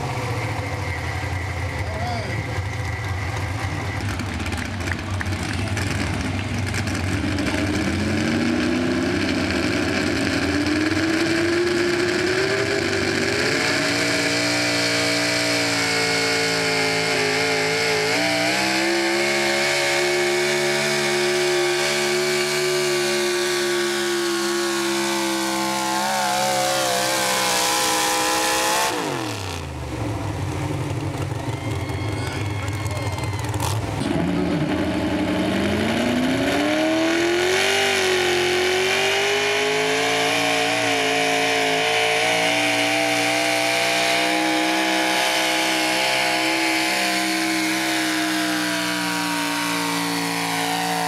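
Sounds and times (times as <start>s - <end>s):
pickup engine at full throttle: 0.0s - 51.0s.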